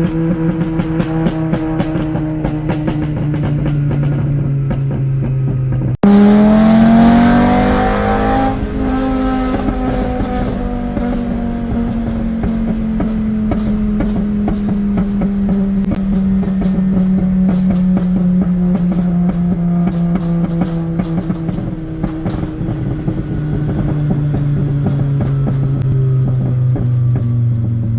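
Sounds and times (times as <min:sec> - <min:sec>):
car engine revving: 0:00.0 - 0:27.9
exhaust crackling and popping: 0:00.0 - 0:27.9.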